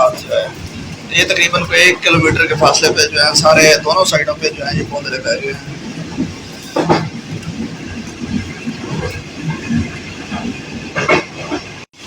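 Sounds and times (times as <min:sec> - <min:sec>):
train carriage rumble and rattle: 0:00.0 - 0:12.0.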